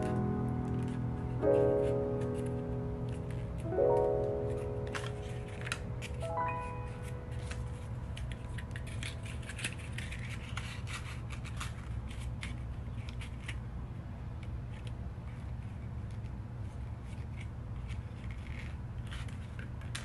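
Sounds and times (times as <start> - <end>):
paper rustling and crackling: 0.0 - 13.6, 14.8 - 20.0.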